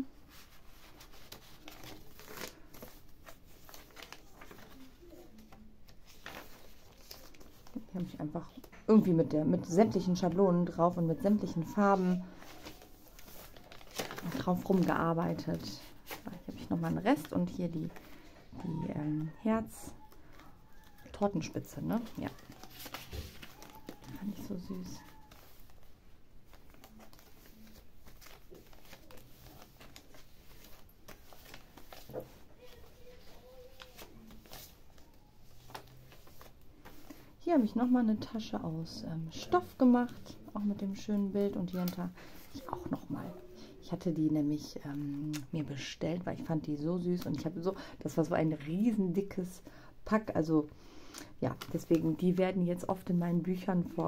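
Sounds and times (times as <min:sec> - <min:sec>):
paper rustling and crinkling: 0:00.0 - 0:09.3, 0:10.0 - 0:45.4, 0:51.5 - 0:54.0.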